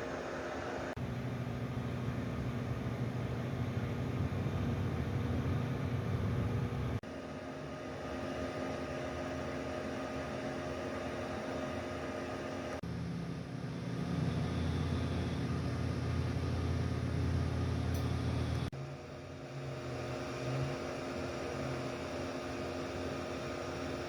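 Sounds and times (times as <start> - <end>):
mechanical hum with steady tones: 0.0 - 24.0.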